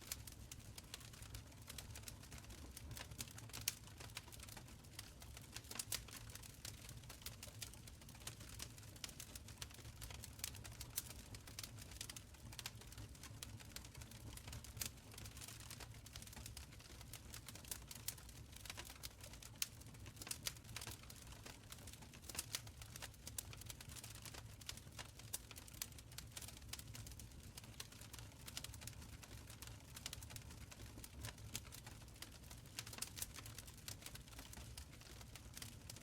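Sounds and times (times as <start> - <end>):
fire crackling and popping: 0.1 - 36.0.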